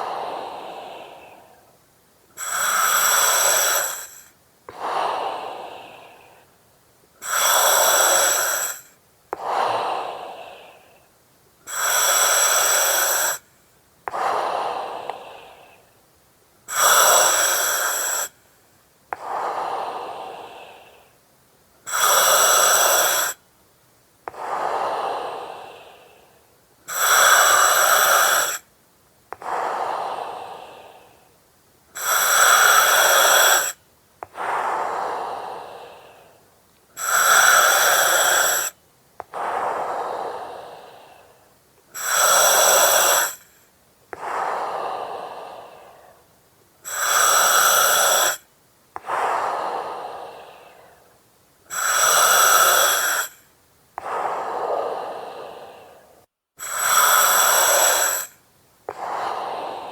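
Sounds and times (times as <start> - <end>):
breathing through oxygen mask: 0.0 - 1.7, 2.4 - 6.4, 7.2 - 11.1, 11.7 - 13.5, 14.1 - 15.8, 16.7 - 18.4, 19.2 - 21.2, 21.8 - 23.4, 24.3 - 28.7, 29.4 - 31.3, 31.9 - 36.4, 37.0 - 48.4, 49.0 - 51.1, 51.7 - 59.9.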